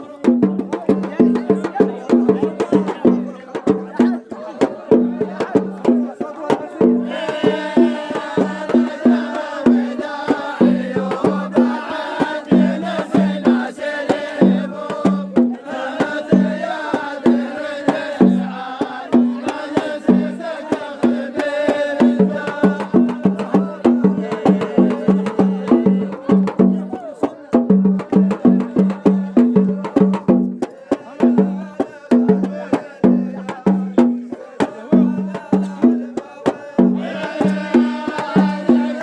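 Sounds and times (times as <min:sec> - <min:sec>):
chanted singing: 0:00.0 - 0:39.0.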